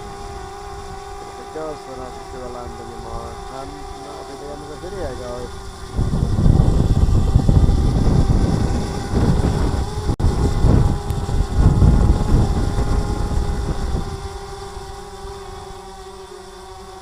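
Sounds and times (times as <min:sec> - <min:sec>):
wind buffeting microphone: 0:00.0 - 0:15.6
drone propellers humming: 0:00.0 - 0:17.0.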